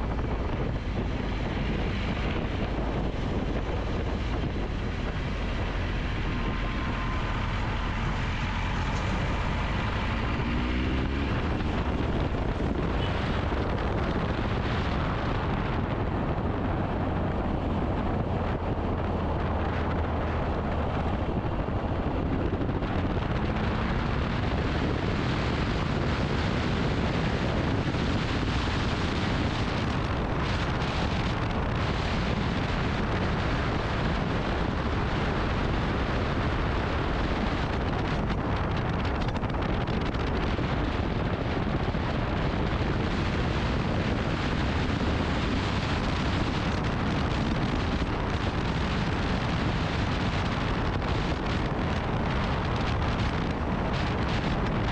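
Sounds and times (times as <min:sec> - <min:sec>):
wind rush over microphone: 0:00.0 - 0:54.9.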